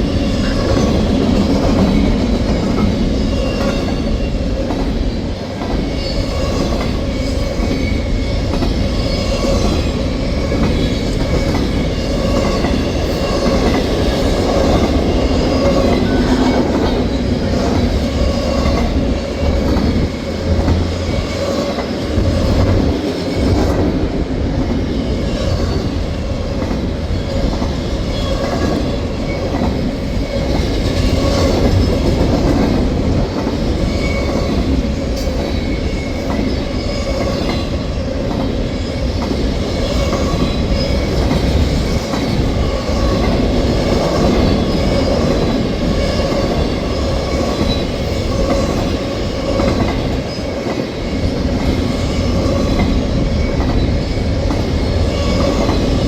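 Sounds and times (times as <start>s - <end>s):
train cars rolling past: 0.0s - 56.0s.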